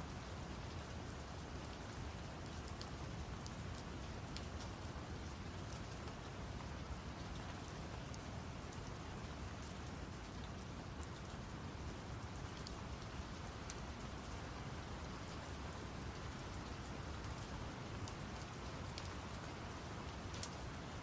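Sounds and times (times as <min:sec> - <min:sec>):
steady rain: 0:00.0 - 0:21.0
low rumble of brown noise: 0:00.1 - 0:21.0
raindrops ticking: 0:02.4 - 0:21.0.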